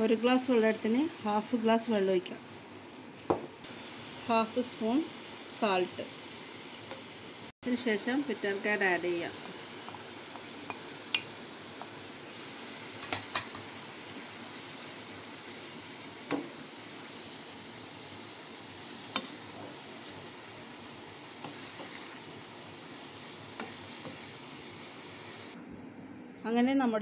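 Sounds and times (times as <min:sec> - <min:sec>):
food sizzling in a pan: 0:00.0 - 0:25.6.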